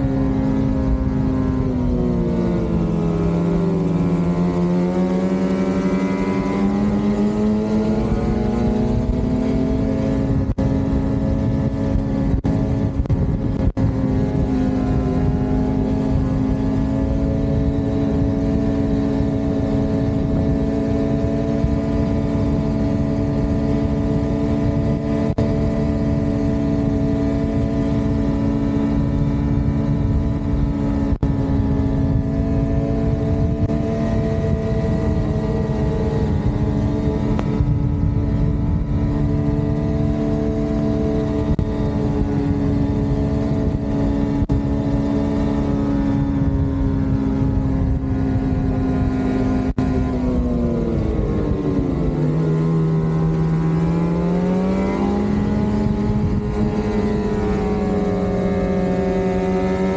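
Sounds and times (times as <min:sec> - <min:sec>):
snowmobile engine: 0:00.0 - 0:59.9.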